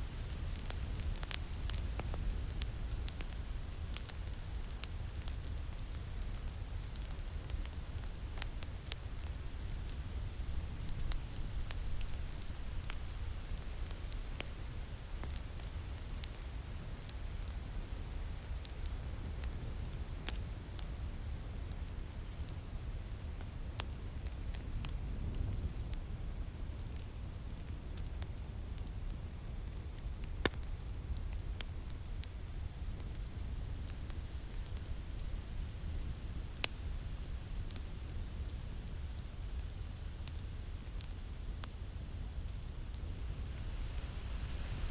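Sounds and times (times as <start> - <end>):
fire crackling and popping: 0.0 - 44.9
low rumble of wind: 0.0 - 44.9.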